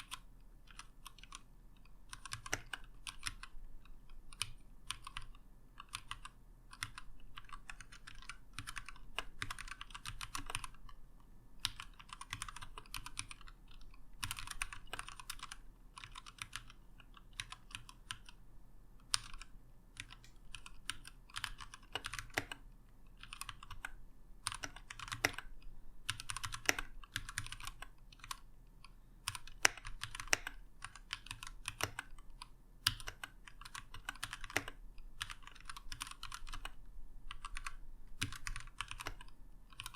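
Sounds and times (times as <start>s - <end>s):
mechanical keyboard typing: 0.0s - 18.4s, 19.0s - 39.9s.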